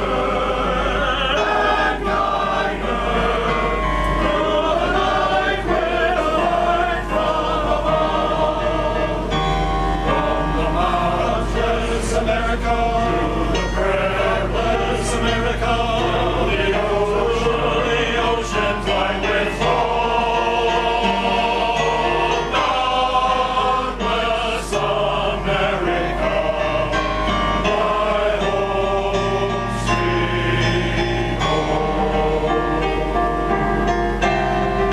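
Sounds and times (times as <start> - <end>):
male chorus singing: 0.0 - 34.9
steady low hum: 0.0 - 34.9.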